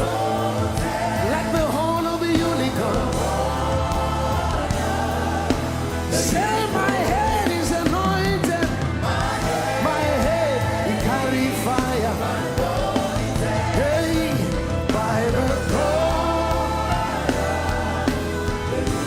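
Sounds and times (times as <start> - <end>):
gospel band playing: 0.0 - 19.0.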